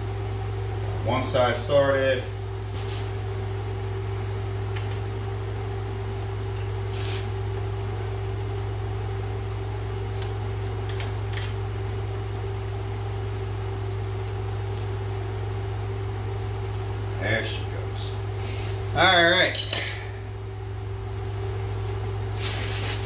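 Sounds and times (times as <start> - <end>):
electric fan humming: 0.0 - 23.0.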